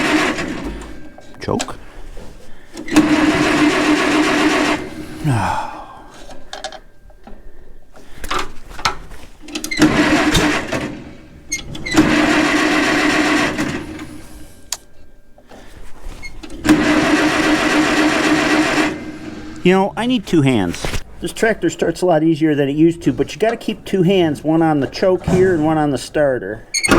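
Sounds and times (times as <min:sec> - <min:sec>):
tractor engine cranking and sputtering: 0:00.0 - 0:26.9.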